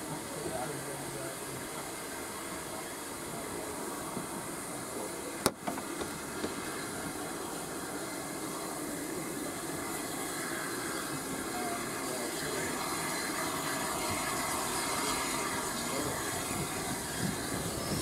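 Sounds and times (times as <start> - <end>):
train wheels rolling on rail: 3.4 - 18.0.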